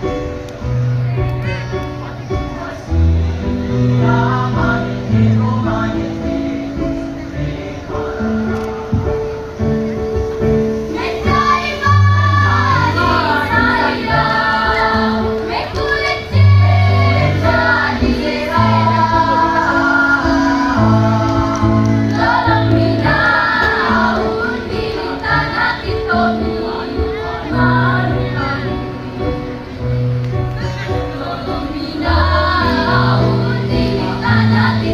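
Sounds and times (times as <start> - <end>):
girls' choir singing: 2.0 - 9.4, 10.7 - 29.8, 30.6 - 34.9.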